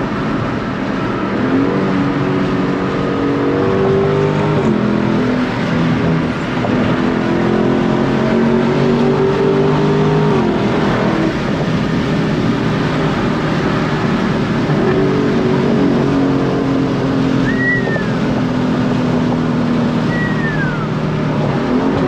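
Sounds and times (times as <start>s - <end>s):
car engine from inside cabin: 0.0s - 22.0s
road noise: 0.0s - 22.0s.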